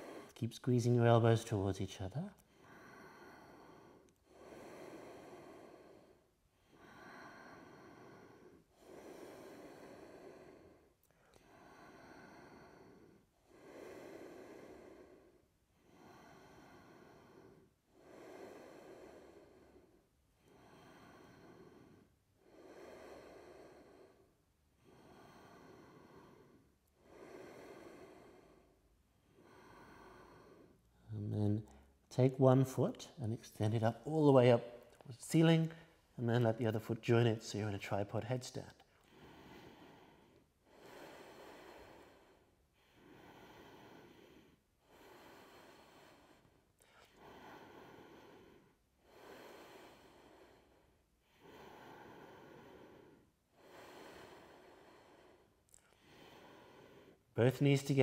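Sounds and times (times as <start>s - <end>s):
person breathing slowly: 0.0s - 58.0s.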